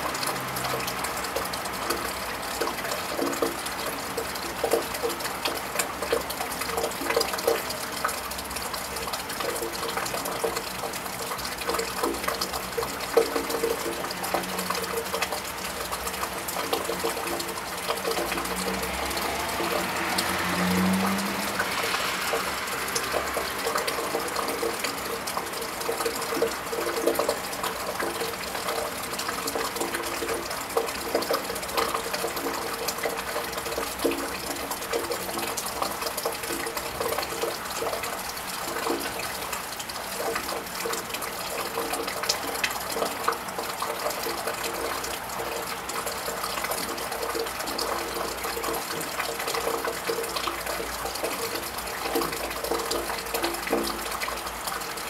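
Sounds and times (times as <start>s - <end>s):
rain on a tiled roof: 0.0s - 55.0s.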